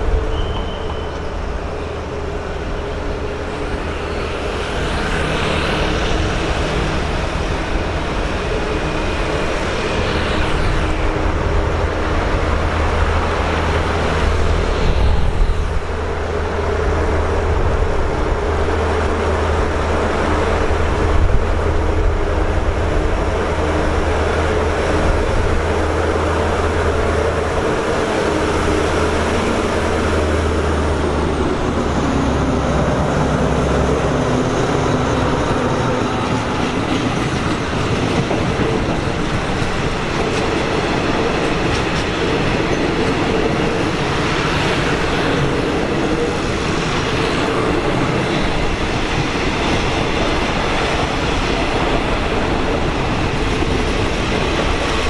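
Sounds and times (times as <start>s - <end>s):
diesel locomotive engine drone: 0.0s - 55.0s
train wheels rumbling on rails: 0.0s - 55.0s.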